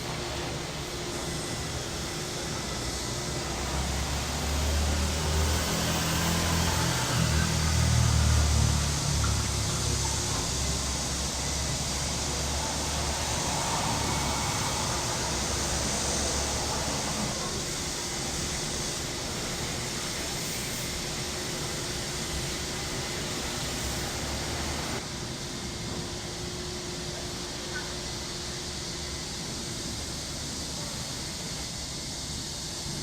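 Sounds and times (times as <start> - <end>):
low traffic rumble: 0.0 - 30.1
cicadas buzzing: 0.0 - 33.0.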